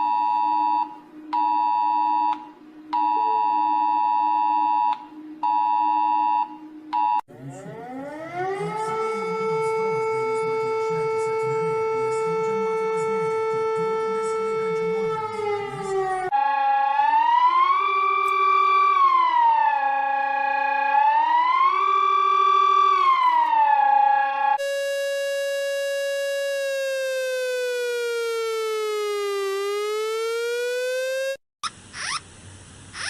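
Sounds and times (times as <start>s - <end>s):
emergency alarm siren: 0.0s - 31.4s.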